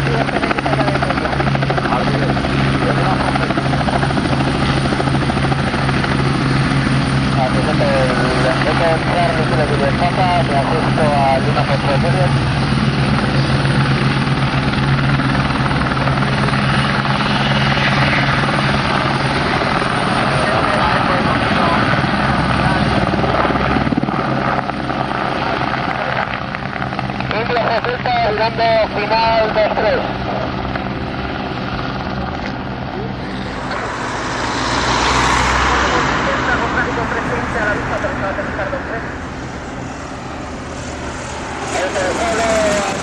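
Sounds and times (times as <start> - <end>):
aircraft engine drone: 0.0 - 43.0.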